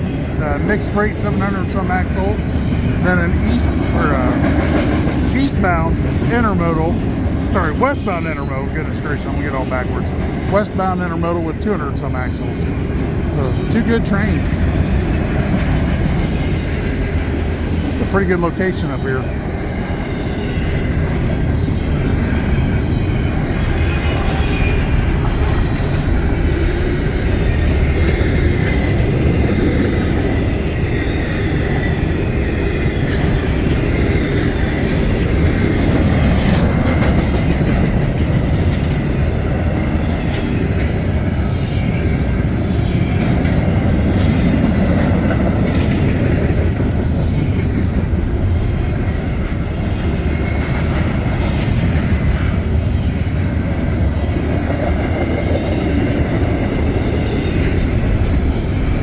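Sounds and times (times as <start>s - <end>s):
freight train wheels rumbling on rail: 0.0s - 59.0s
wheels clattering over track: 0.0s - 59.0s.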